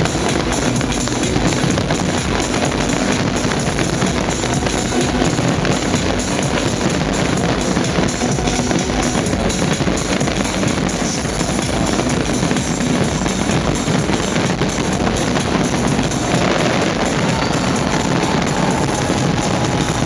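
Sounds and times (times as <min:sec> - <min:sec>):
loud music with drum beat: 0:00.0 - 0:20.0.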